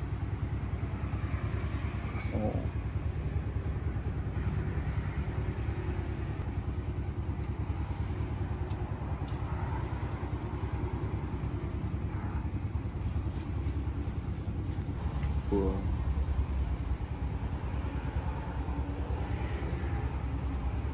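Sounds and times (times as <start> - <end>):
engine running low rumble: 0.0 - 20.9.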